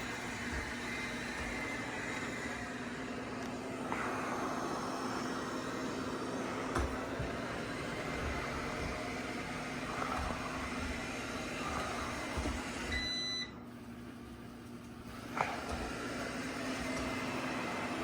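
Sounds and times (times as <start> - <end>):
robot vacuum whirring: 0.0 - 13.4, 15.1 - 18.0.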